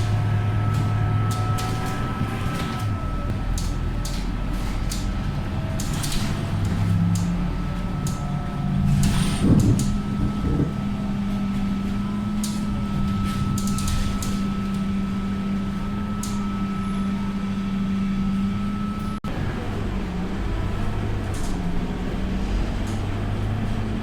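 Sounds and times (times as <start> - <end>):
bus diesel engine humming: 0.0 - 24.0.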